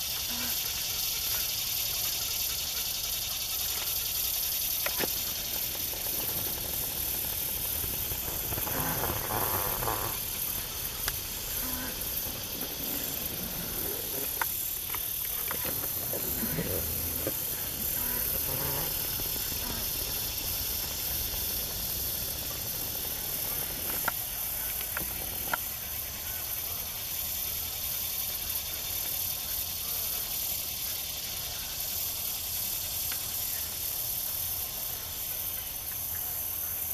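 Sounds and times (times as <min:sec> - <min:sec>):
high-pitched marsh hiss: 0:00.0 - 0:36.9.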